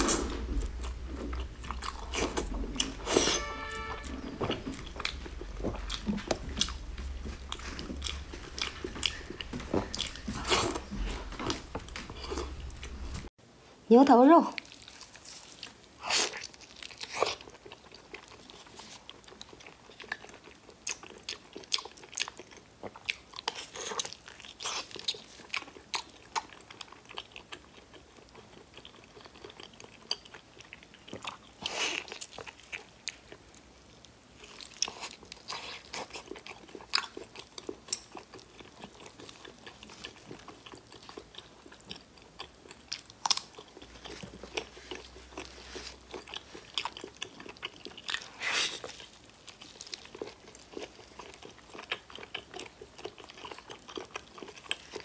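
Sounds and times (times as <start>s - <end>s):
person chewing meat: 0.0s - 13.3s, 14.6s - 55.0s.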